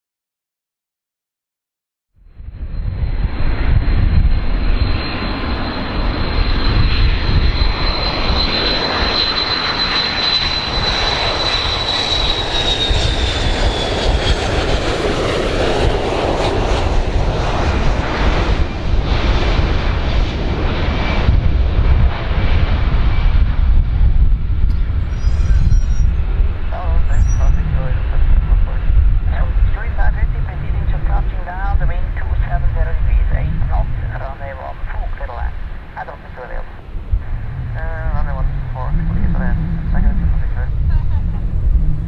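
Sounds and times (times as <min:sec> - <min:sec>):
jet engines whining and rumbling: 0:02.2 - 0:42.0.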